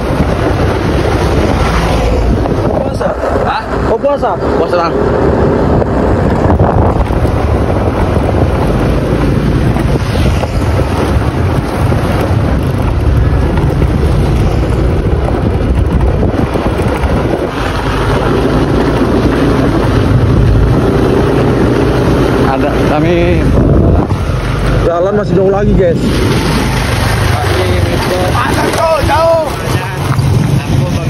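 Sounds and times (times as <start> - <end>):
motorbike engines droning: 0.0 - 31.0
wind buffeting microphone: 0.0 - 31.0.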